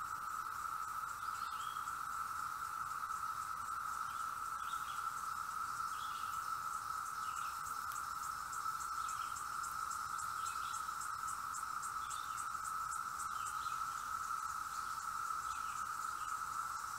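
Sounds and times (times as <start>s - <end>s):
cicadas droning: 0.0s - 16.9s.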